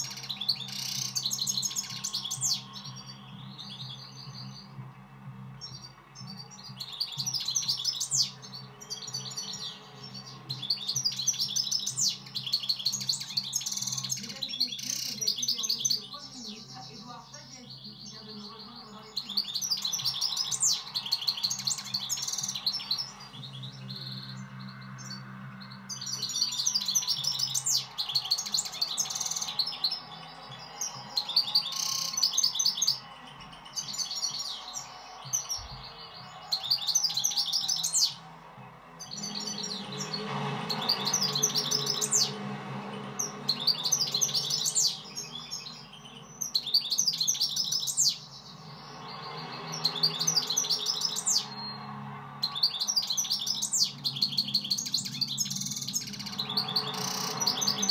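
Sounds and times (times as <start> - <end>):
goldfinch twittering song: 0.0 - 57.9.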